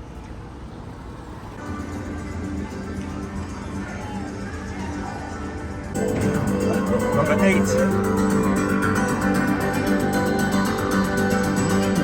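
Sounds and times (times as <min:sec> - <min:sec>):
music with held tones: 0:01.6 - 0:12.0.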